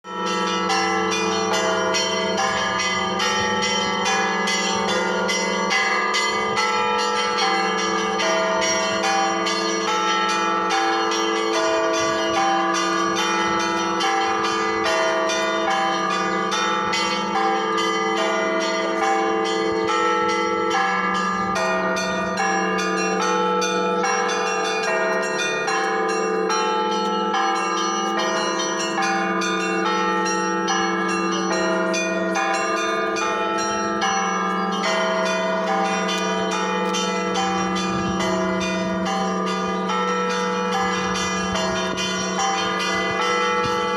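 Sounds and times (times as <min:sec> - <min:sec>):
large bells ringing steadily: 0:00.0 - 0:43.9.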